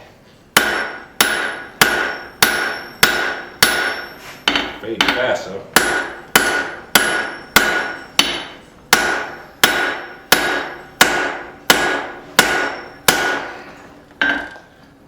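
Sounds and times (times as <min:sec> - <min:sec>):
hammer striking steel on anvil: 0:00.6 - 0:14.7.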